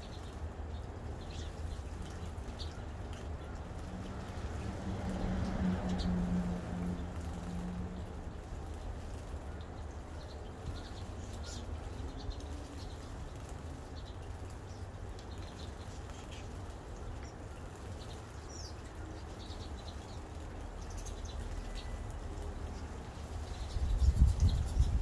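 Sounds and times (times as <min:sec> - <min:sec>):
steady rain: 0:00.0 - 0:24.1.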